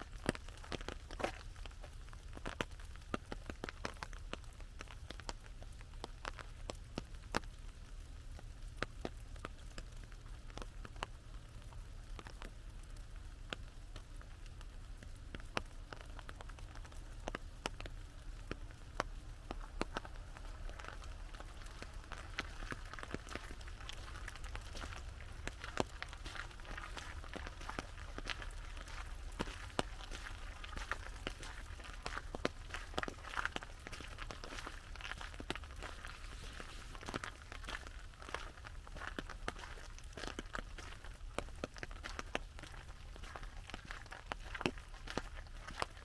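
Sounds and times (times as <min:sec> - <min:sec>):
raindrops on an umbrella: 0:00.0 - 0:46.0
steady low rumble: 0:00.0 - 0:46.0.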